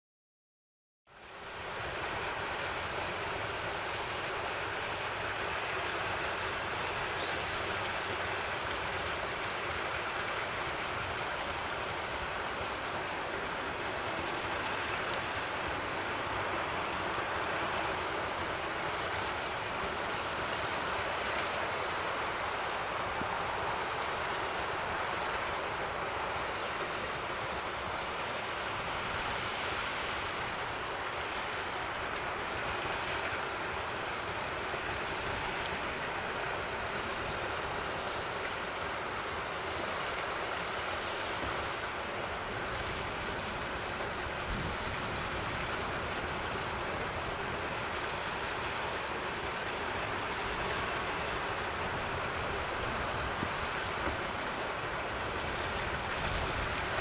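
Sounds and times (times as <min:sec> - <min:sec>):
steady rushing background noise: 0:01.2 - 0:57.0.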